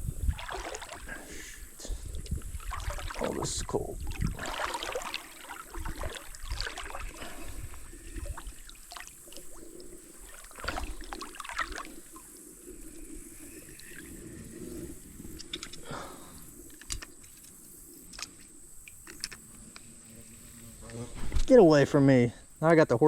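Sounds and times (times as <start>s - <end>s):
water moving around boat: 0.0s - 21.7s.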